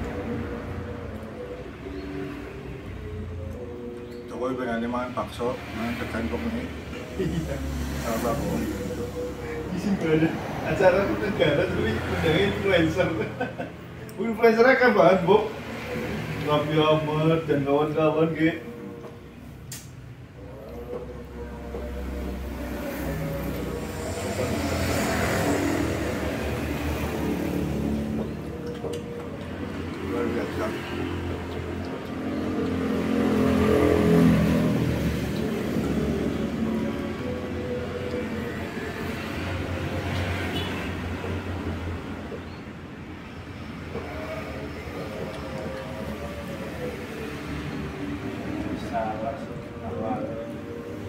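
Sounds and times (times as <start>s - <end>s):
vehicle engine passing by: 0.0s - 51.0s.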